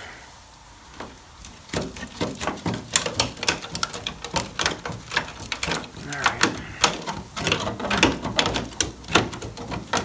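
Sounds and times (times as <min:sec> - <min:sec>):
hand tool clicking on car metal: 0:01.0 - 0:10.0.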